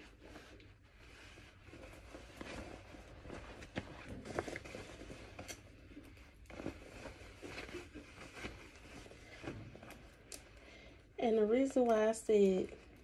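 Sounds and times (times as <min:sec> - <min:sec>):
denim fabric rustling: 0:00.0 - 0:13.0.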